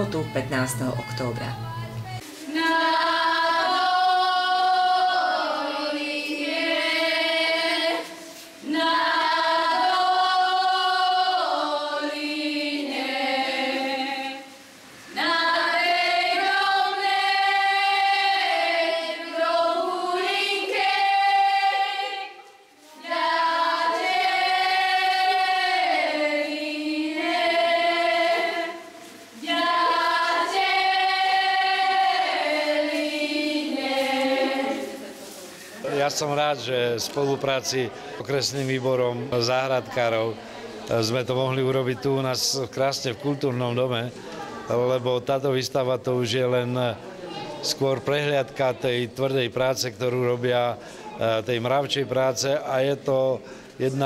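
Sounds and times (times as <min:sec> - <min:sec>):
girls singing unaccompanied: 0:00.0 - 0:45.0.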